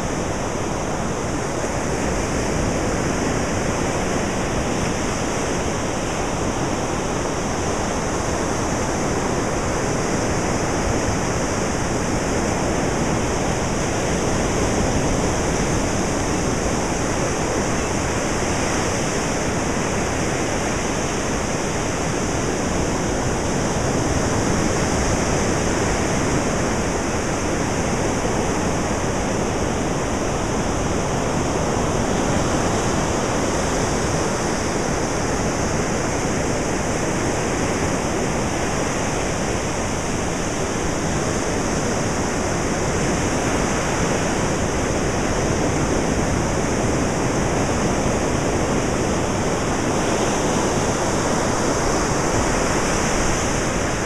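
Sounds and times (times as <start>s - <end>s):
ocean waves washing: 0.0s - 54.0s.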